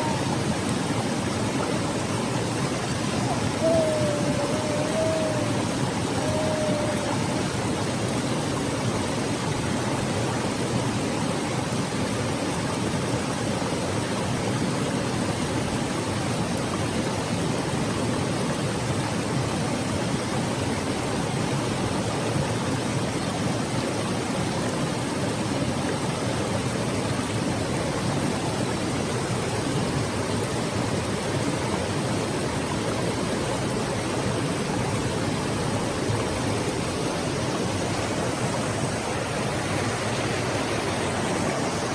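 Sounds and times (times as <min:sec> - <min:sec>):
stream flowing over rocks: 0:00.0 - 0:41.9.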